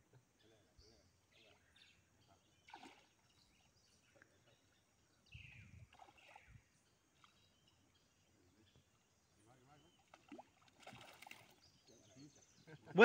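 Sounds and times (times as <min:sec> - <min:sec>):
faint bird chirps: 0:00.2 - 0:13.0.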